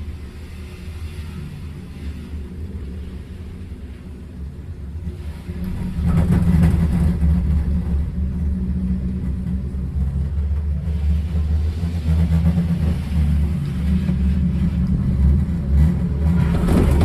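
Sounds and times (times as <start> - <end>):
cable car rumbling along cable: 0.0 - 17.0.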